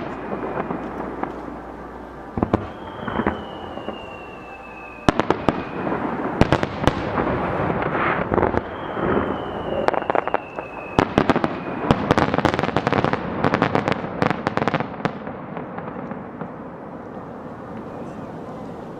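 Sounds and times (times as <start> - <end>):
dense firework crackling: 0.0 - 18.9.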